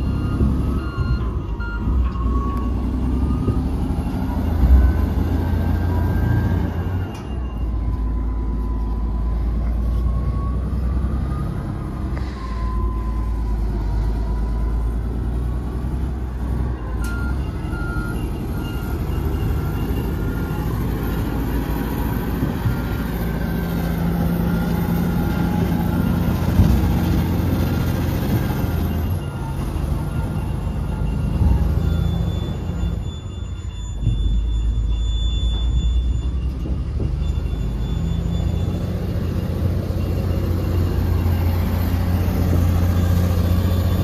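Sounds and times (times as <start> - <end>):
bulldozer diesel engine rumbling: 0.0 - 44.0
reversing alarm beeping: 0.0 - 44.0.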